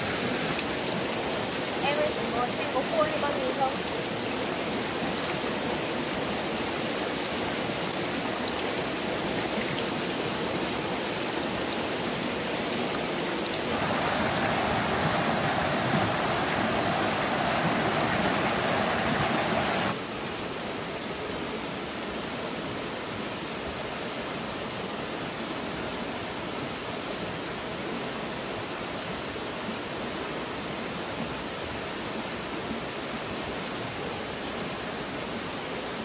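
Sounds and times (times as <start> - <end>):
mountain stream rushing: 0.0 - 36.0.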